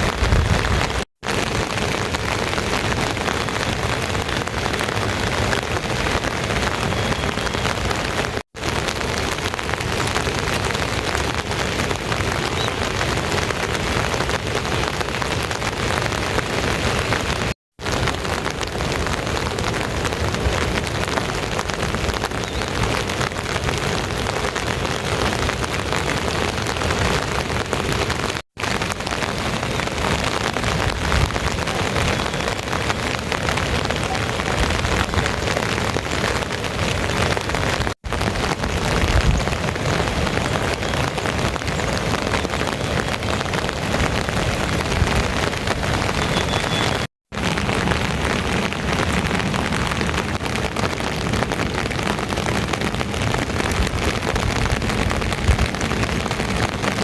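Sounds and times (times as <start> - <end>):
dense rain falling: 0.0 - 57.0.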